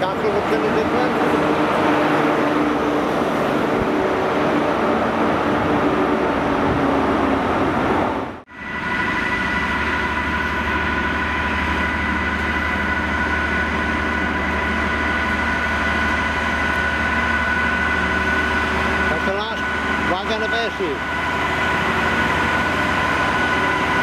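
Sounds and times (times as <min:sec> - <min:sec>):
diesel locomotive engine drone: 0:00.0 - 0:24.0
high whine: 0:00.0 - 0:24.0
train power car running past: 0:00.0 - 0:24.0.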